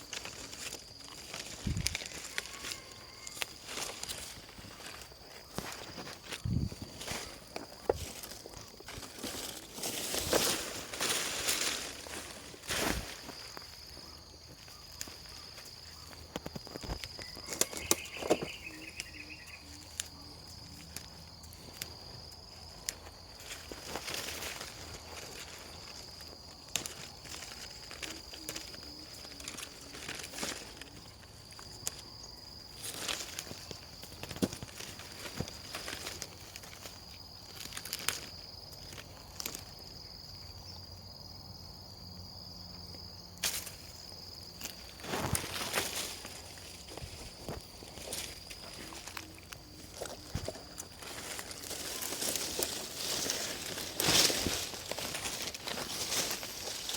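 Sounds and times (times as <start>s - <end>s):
high-pitched insect drone: 0.0s - 56.9s.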